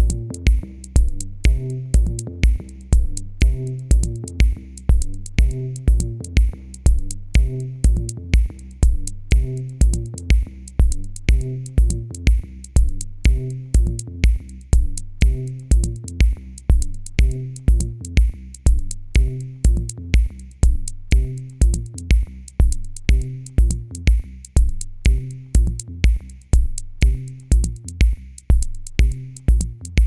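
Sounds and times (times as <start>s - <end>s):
electronic music with drum beat: 0.0s - 30.0s.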